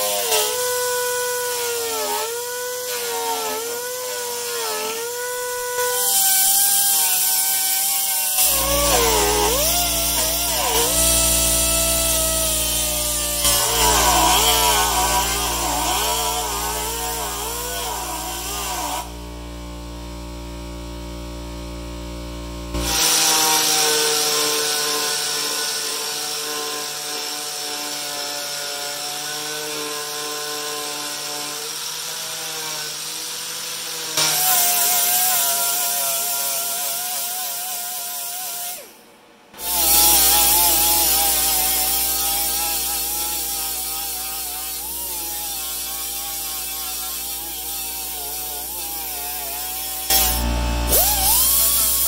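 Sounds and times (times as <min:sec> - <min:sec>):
power sander on fiberglass: 0:00.0 - 0:20.3, 0:22.7 - 0:39.0, 0:39.6 - 0:52.0.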